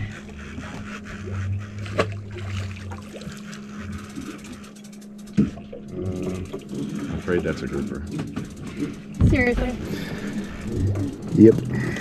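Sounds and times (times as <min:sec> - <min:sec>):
boat engine humming: 0:00.0 - 0:12.0
wind and water noise: 0:00.0 - 0:12.0.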